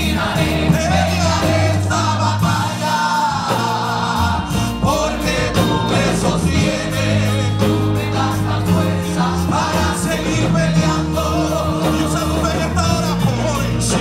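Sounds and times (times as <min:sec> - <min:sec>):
group singing gospel song: 0:00.0 - 0:14.0
live band accompaniment: 0:00.0 - 0:14.0.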